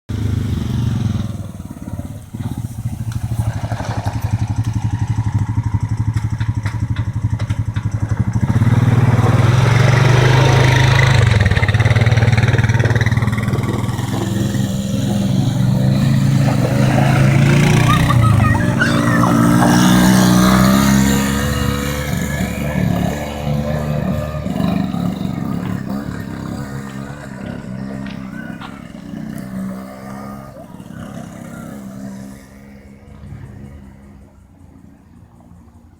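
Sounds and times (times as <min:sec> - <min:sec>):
quad bike engine running: 0:00.1 - 0:35.9.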